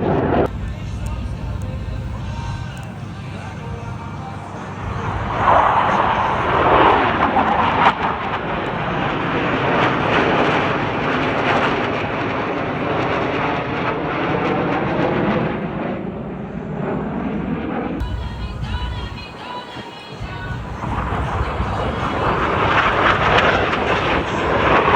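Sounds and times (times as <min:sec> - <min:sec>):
aircraft engine roar: 0:00.0 - 0:24.9.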